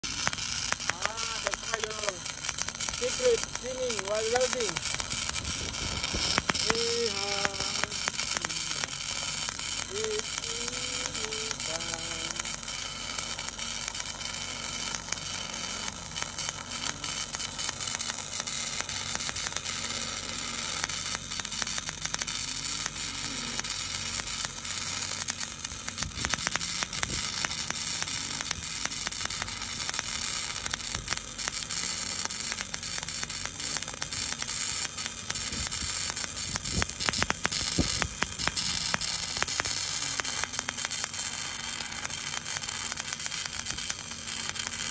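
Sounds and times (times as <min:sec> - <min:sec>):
welding arc crackling: 0:00.0 - 0:44.9.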